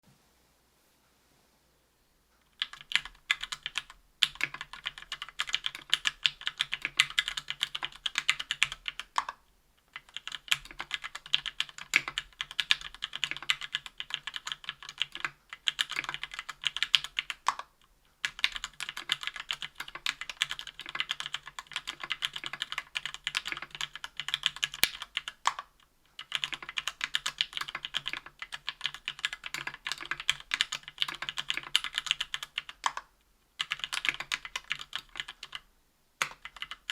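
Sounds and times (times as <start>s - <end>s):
keyboard typing clacks: 2.6s - 9.4s, 10.0s - 33.0s, 33.6s - 35.6s, 36.2s - 36.9s.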